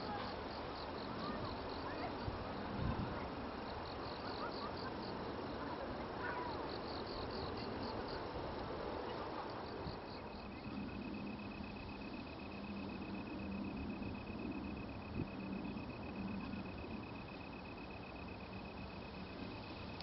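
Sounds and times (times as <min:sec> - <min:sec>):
insects chirping in pulses: 0:00.0 - 0:20.0.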